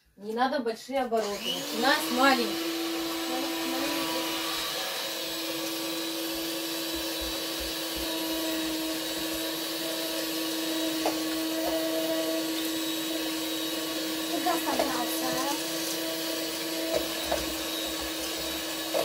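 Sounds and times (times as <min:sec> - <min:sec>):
electric hand mixer whisking batter: 0:01.2 - 0:19.0.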